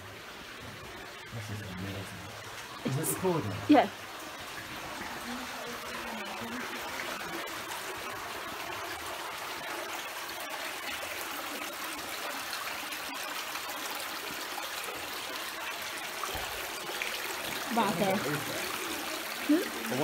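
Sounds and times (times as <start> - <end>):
water flowing: 0.0 - 20.0.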